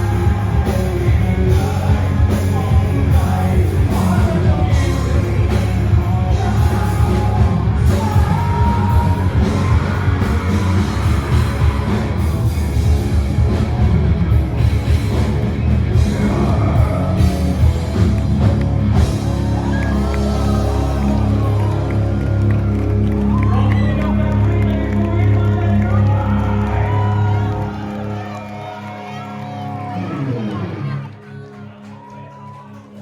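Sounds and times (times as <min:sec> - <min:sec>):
rock band playing loudly: 0:00.0 - 0:31.8.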